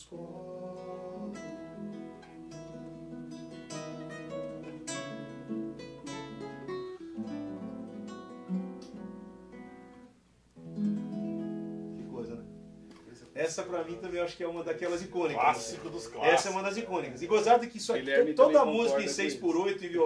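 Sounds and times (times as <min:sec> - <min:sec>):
acoustic guitar: 0:00.0 - 0:17.4.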